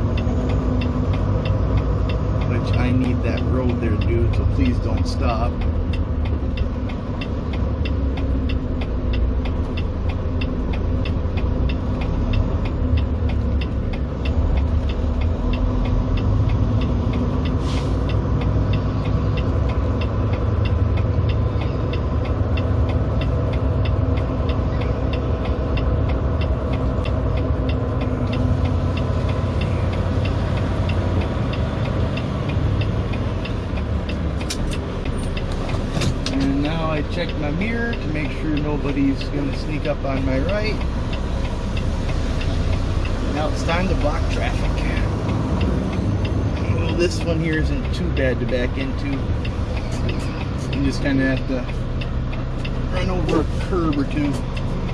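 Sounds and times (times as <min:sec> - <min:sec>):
diesel engine rumbling: 0:00.0 - 0:54.9
fast even ticking: 0:00.0 - 0:54.9.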